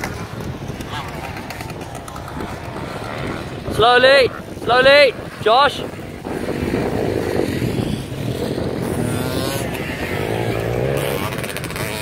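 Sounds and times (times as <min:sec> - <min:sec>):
dirt bike engines revving: 0:00.0 - 0:12.0
dirt bike passing close: 0:00.0 - 0:12.0.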